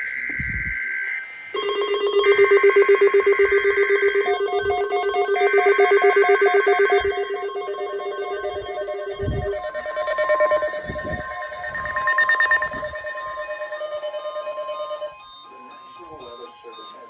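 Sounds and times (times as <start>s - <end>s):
fast-pulsing warbling alert tone: 1.6s - 15.3s
screeching digital data bursts: 1.6s - 17.0s.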